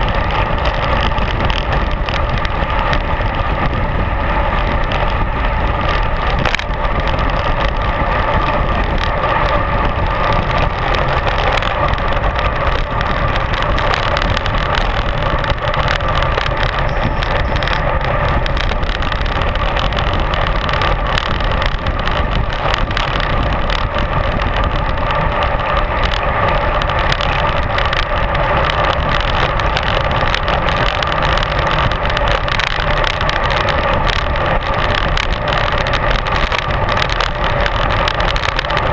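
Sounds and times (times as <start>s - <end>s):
road noise: 0.0s - 38.9s
wind rush: 0.0s - 38.9s.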